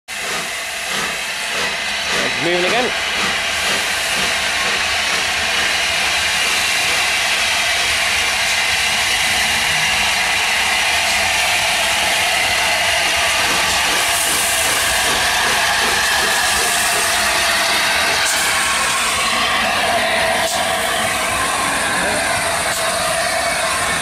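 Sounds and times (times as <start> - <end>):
hiss of steam: 0.1 - 24.0.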